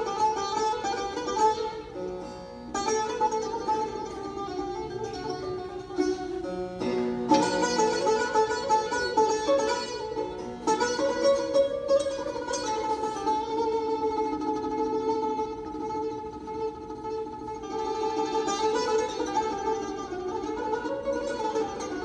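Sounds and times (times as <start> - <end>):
plucked long-necked lute: 0.0 - 22.0.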